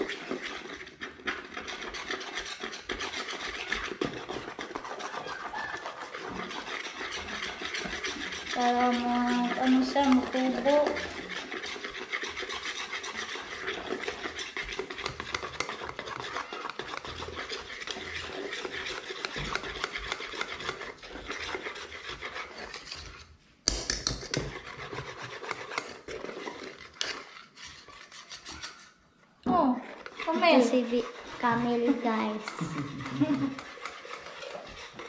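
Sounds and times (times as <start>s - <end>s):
wire whisk scraping metal bowl: 0.0s - 29.0s, 29.7s - 35.0s.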